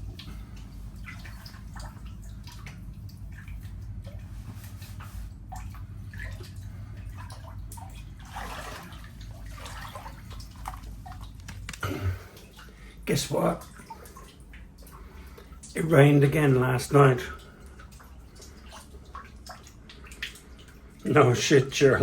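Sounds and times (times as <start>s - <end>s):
water dripping and splashing: 0.0s - 22.0s.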